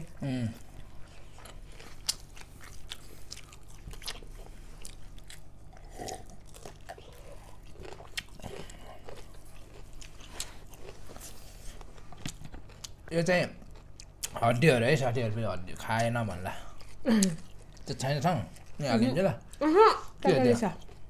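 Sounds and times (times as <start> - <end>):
people chewing food: 0.0 - 21.0.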